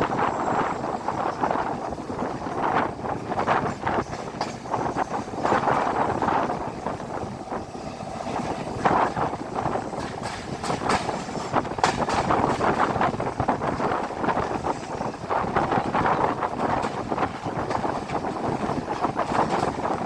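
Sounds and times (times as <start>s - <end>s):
train rumbling: 0.0s - 20.0s
train wheels clattering on track: 0.0s - 20.0s.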